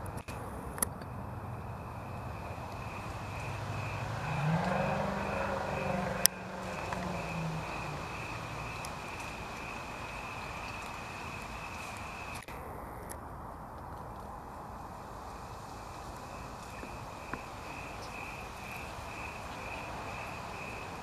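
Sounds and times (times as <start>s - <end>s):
low vehicle hum: 0.0s - 21.0s
insects trilling: 0.2s - 13.2s, 14.5s - 21.0s.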